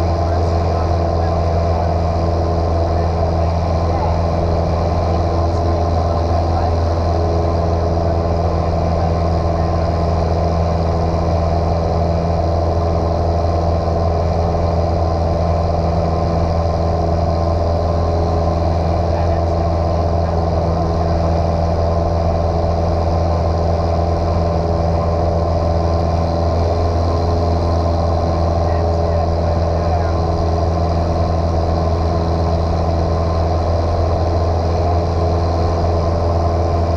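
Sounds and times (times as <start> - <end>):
airplane engine and propeller droning: 0.0 - 36.9.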